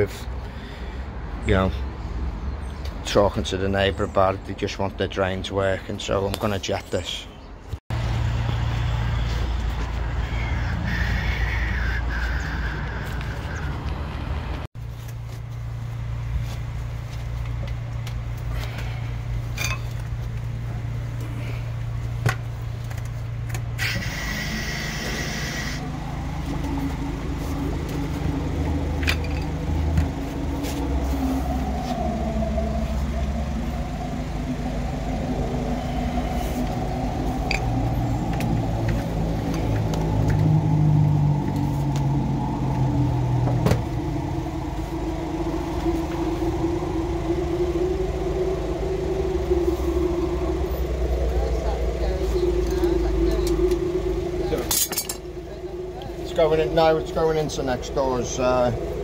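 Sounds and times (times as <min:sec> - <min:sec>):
engine running steadily: 0:08.0 - 0:59.0.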